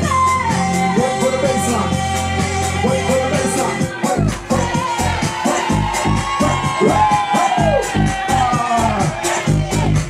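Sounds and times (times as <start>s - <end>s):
loud house music: 0.0s - 10.0s.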